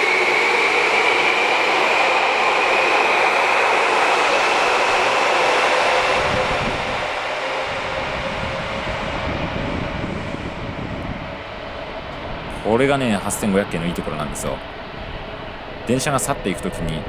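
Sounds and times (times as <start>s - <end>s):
electric train pulling out: 0.0s - 17.0s
rising motor whine: 0.0s - 17.0s.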